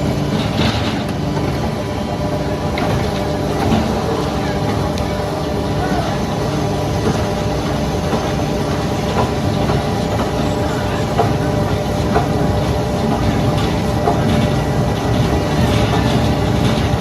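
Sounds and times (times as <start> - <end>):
heavy machinery humming: 0.0 - 17.0.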